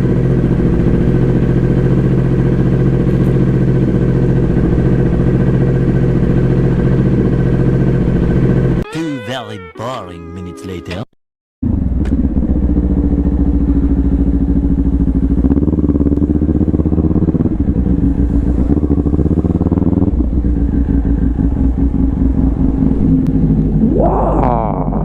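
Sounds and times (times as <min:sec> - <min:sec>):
motorcycle engine running: 0:00.0 - 0:08.8, 0:11.6 - 0:25.0.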